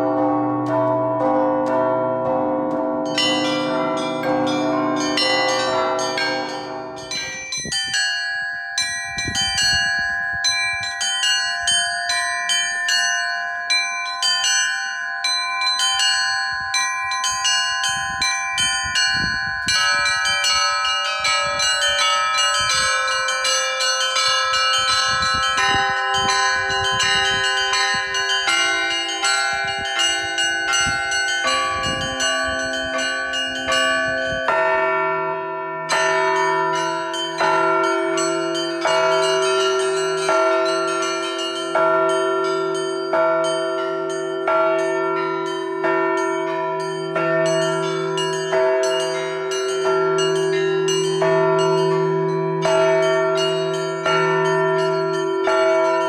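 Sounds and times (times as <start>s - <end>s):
large church bells ringing: 0.0s - 56.0s
small high bells chiming: 0.0s - 56.0s.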